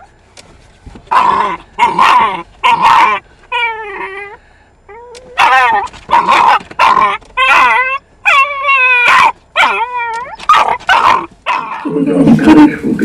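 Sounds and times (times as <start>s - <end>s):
small dog whining and yipping: 1.1s - 11.8s.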